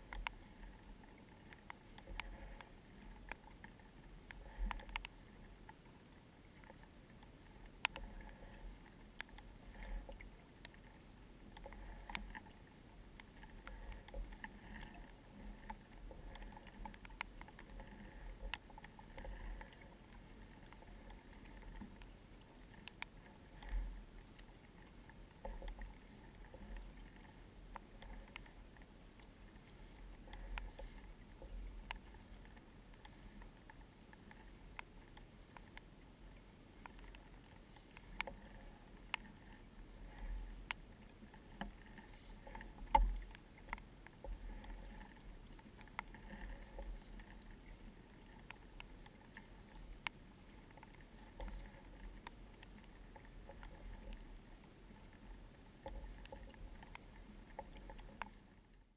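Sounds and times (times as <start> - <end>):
water against kayak hull: 0.0 - 58.9.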